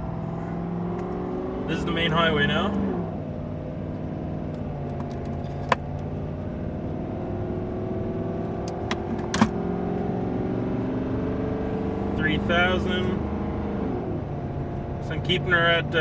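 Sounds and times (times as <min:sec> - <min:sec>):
truck engine pulling hard: 0:00.0 - 0:16.0.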